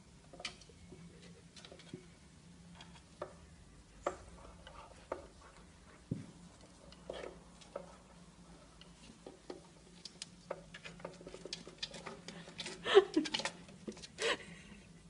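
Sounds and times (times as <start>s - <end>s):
cat tapping and scraping: 0.3s - 3.4s, 4.0s - 14.2s.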